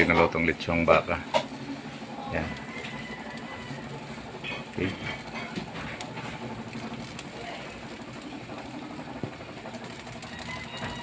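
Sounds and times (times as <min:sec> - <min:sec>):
oven motor humming: 0:00.0 - 0:11.0.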